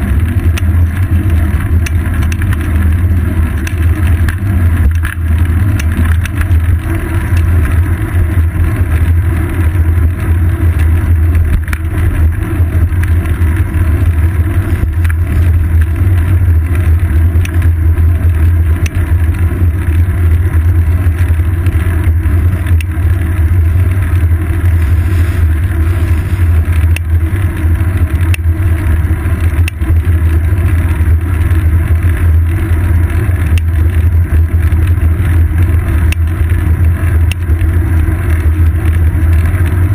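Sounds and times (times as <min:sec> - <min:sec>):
road vibration and wind rumble: 0:00.0 - 0:39.9.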